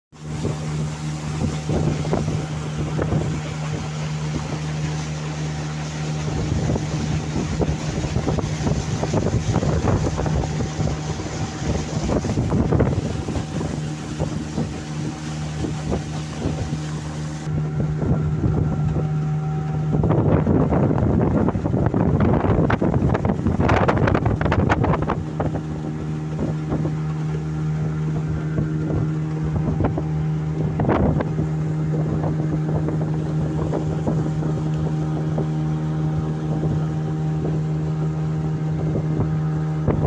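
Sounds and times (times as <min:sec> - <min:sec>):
engine drone: 0:00.1 - 0:40.0
wind buffeting microphone: 0:00.2 - 0:40.0.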